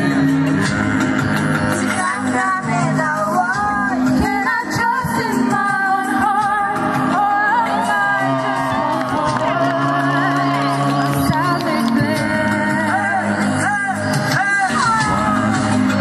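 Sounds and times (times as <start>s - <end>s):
musical accompaniment: 0.0s - 16.0s
person singing with vibrato: 0.0s - 16.0s.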